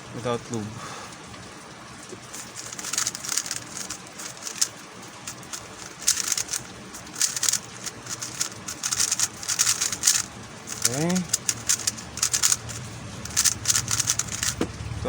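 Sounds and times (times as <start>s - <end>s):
puzzle cube plastic clicking: 2.3s - 14.6s.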